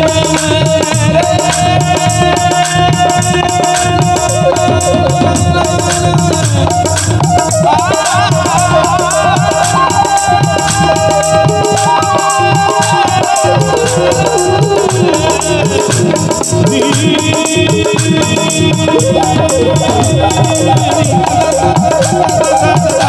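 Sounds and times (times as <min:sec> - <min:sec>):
electronic keyboard: 0:00.0 - 0:23.0
harmonium: 0:00.0 - 0:23.0
tabla: 0:00.0 - 0:23.0.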